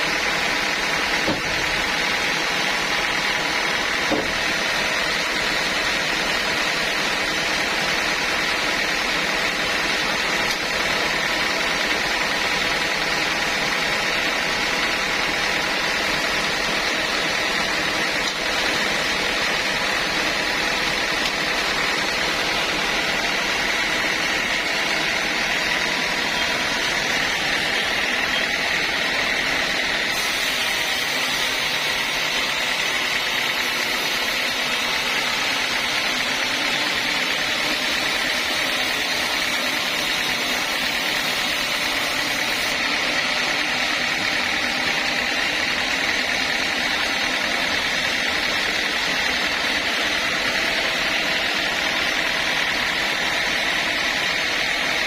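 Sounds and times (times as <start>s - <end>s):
sawmill saw machinery running: 0.0s - 55.0s.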